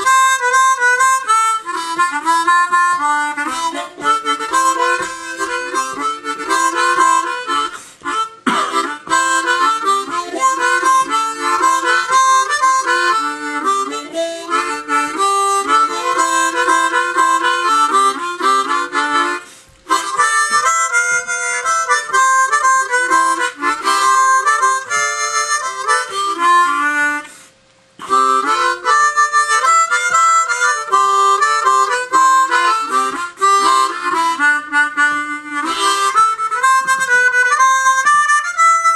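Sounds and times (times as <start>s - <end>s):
solo harmonica playing: 0.0s - 38.9s.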